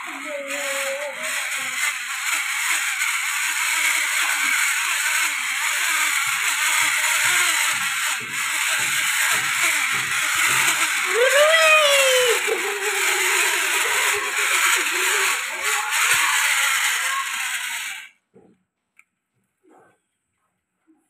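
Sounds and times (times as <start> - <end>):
toy truck wheels rolling on wood: 0.0 - 18.2.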